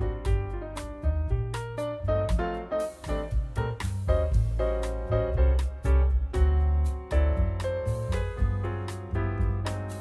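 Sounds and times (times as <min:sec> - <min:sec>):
piano-led instrumental music: 0:00.0 - 0:10.0.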